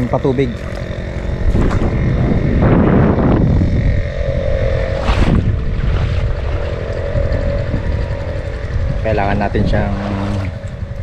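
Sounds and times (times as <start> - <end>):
small engine running: 0.0 - 11.0
wind noise on microphone: 0.0 - 11.0.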